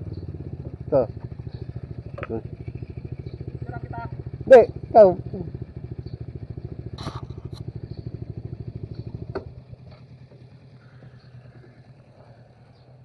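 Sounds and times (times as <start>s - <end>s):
motor scooter engine idling: 0.0s - 13.0s.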